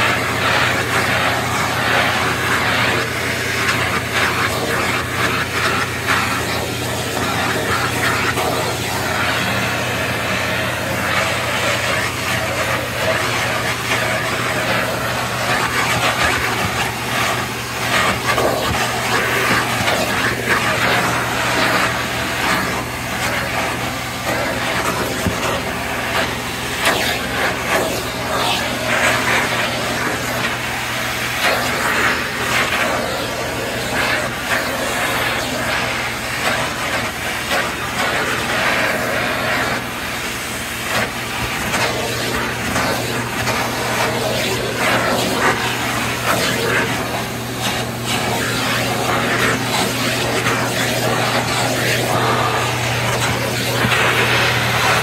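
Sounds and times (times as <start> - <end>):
vacuum cleaner motor hum: 0.0 - 55.0
vacuum rushing air: 0.1 - 37.0, 38.1 - 55.0.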